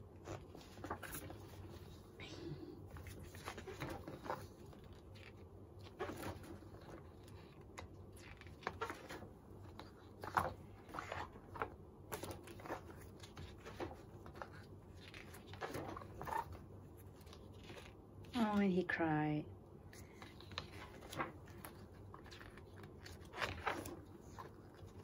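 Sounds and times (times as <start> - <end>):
book pages turning: 0.2 - 2.2, 2.8 - 18.4, 19.8 - 25.0.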